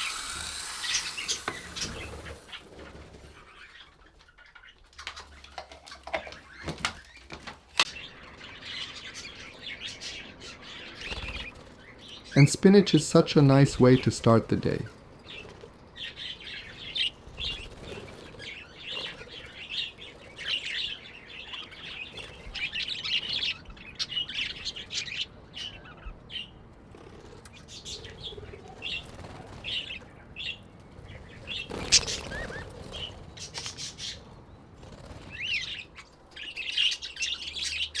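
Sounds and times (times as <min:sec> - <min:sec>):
finches chirping: 0:00.0 - 0:38.0
wings fluttering: 0:00.0 - 0:38.0.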